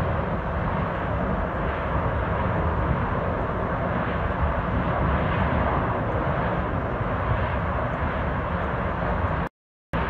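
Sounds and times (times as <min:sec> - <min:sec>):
fire roaring: 0:00.0 - 0:10.0.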